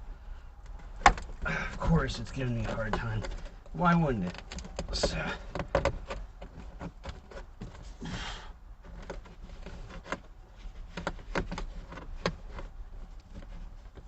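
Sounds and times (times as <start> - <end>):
carpet scraping rustle: 0.0 - 14.0.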